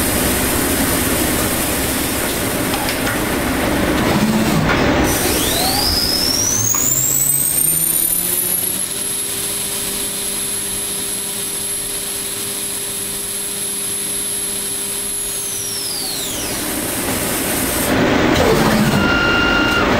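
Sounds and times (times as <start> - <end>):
machine spindle whining: 0.0 - 19.9
steady machine hum: 0.0 - 19.9.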